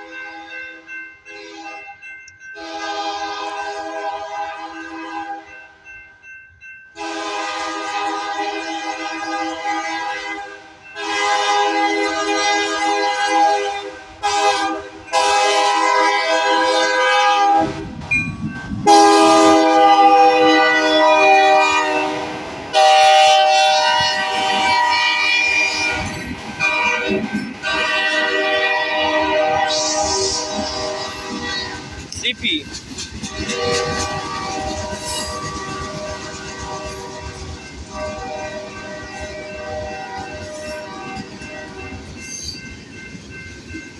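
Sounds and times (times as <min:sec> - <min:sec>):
locomotive air horn blasts: 0:02.6 - 0:05.5, 0:07.0 - 0:17.8, 0:18.8 - 0:31.9, 0:33.3 - 0:41.8.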